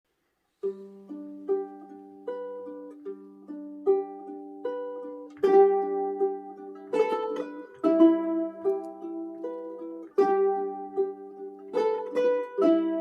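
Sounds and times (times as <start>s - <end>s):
ukulele picked notes: 0.5s - 13.0s
ukulele strummed chord: 0.6s - 13.0s.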